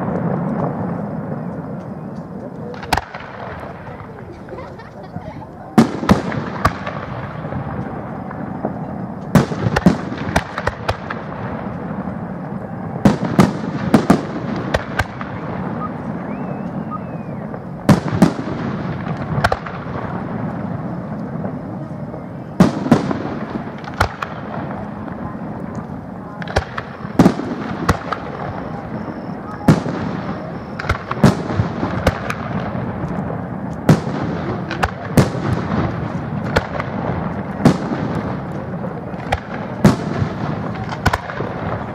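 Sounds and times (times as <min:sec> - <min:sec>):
firework shells booming: 0:00.0 - 0:41.9.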